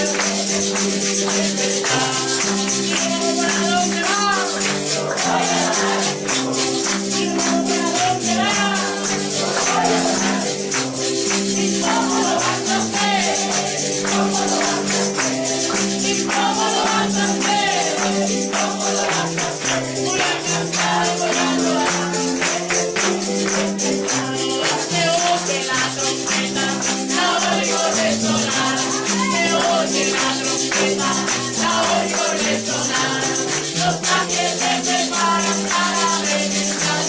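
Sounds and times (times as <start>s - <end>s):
congregation singing: 0.0s - 37.0s
tambourine shaken and struck: 0.0s - 37.0s.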